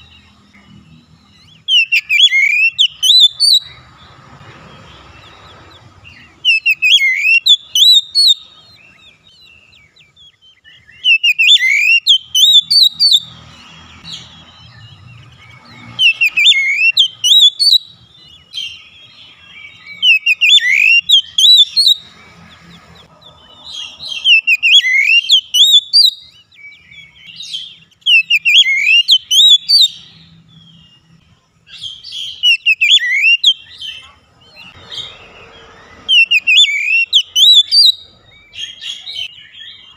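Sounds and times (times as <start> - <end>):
bird singing whistled phrases: 1.4 - 3.8, 6.0 - 13.3, 14.0 - 22.1, 23.7 - 30.8, 31.7 - 35.4, 36.0 - 39.9.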